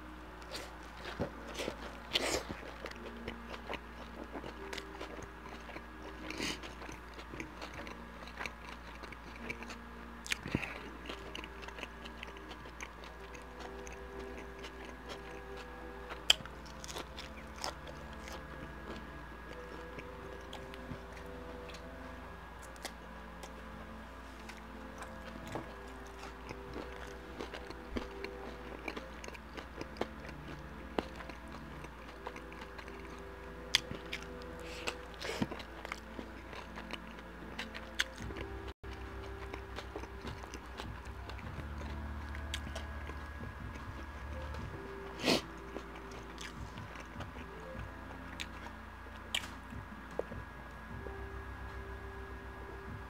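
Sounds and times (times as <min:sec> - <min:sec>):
person chewing food: 0:00.0 - 0:51.2.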